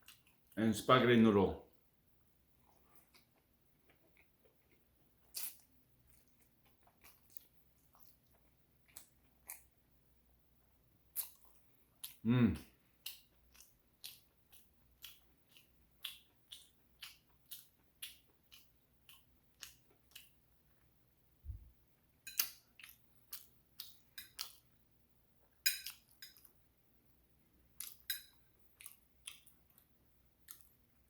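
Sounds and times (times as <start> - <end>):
person chewing: 0.0 - 0.6, 2.6 - 9.8, 11.0 - 24.8, 27.6 - 31.0.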